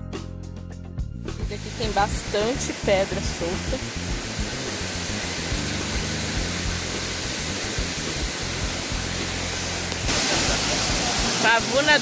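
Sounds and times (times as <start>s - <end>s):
waterfall rushing: 1.6s - 12.0s.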